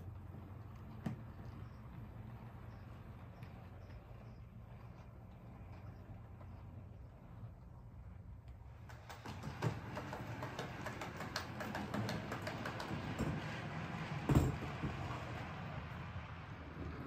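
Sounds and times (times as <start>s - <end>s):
model train humming: 0.0s - 17.0s
small clicks of train on track: 0.0s - 17.0s.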